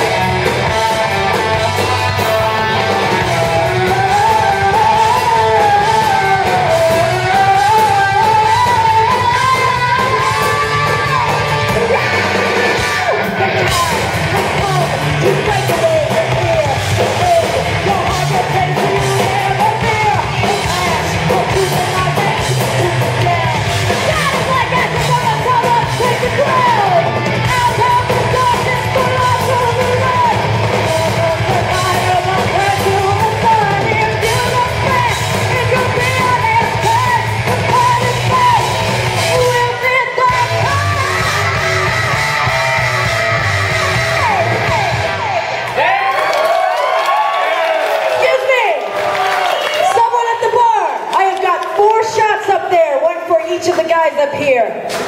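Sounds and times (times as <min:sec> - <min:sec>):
high sustained lead vocal: 0:00.0 - 0:45.6
heavy metal band playing live: 0:00.0 - 0:46.2.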